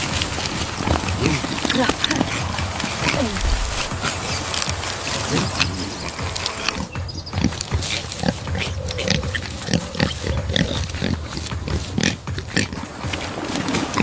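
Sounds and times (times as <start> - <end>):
animal calling: 0.0 - 14.0.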